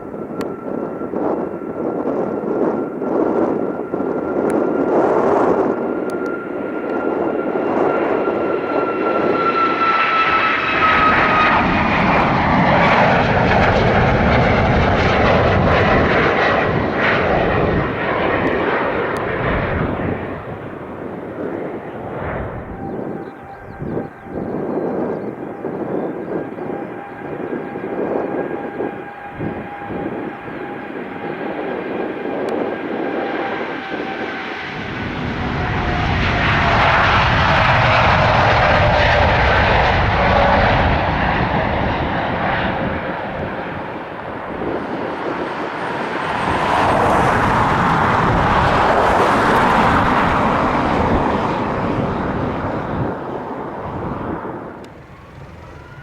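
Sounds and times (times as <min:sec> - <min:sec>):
jet engines whining at takeoff: 0:00.0 - 0:56.0.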